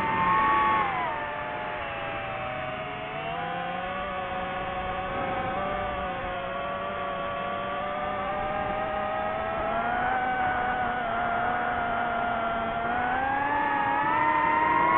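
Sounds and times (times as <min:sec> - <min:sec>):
drone propellers whining: 0:00.0 - 0:14.9.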